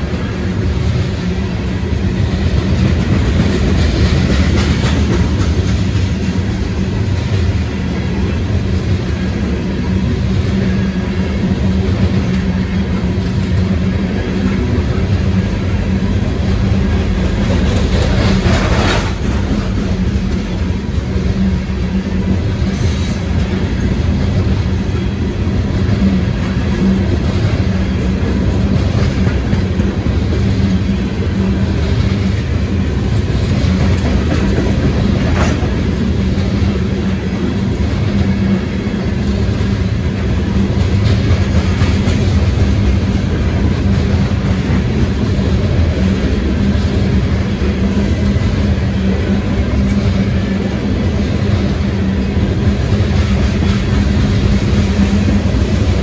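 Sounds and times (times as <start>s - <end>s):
brief sharp train sounds: 0.0s - 56.0s
freight train rolling past: 0.0s - 56.0s.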